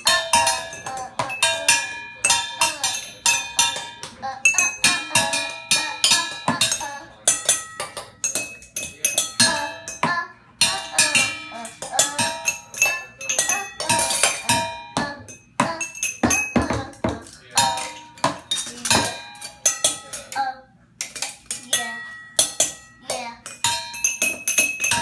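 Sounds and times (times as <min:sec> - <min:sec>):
sticks drumming on metal pots: 0:00.0 - 0:25.0.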